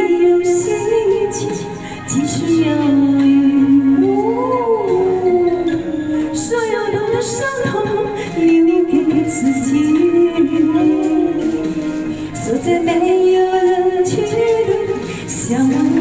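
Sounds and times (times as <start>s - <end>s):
backing music: 0.0s - 16.0s
woman singing into microphone: 0.0s - 16.0s.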